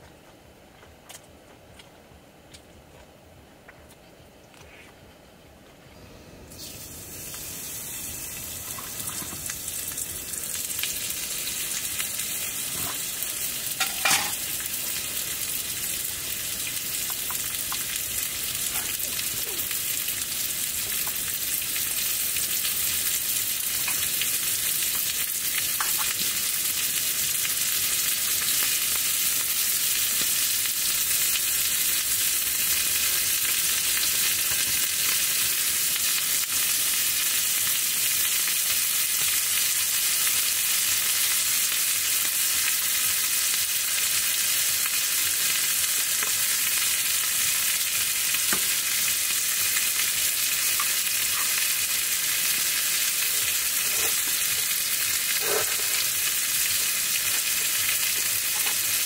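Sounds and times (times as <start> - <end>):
food sizzling in oil: 6.5 - 59.0.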